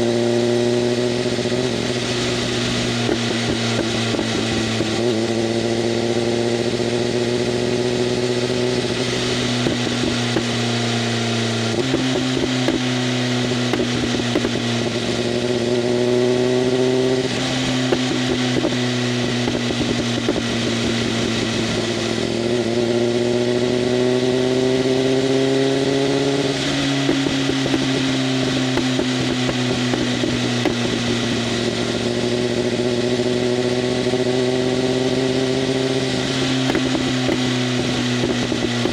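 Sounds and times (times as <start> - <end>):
motorcycle engine under light throttle: 0.0 - 38.9.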